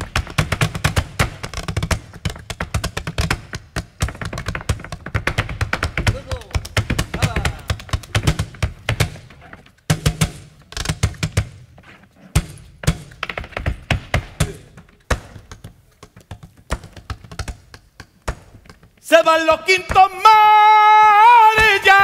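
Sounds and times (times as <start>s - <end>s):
hands striking wooden box: 0.0s - 19.0s
footwork stamping on stage: 0.0s - 22.0s.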